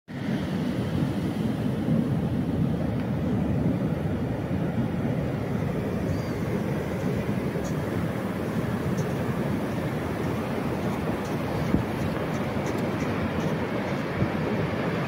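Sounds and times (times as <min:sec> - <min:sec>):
ocean waves breaking on beach: 0:00.1 - 0:15.0.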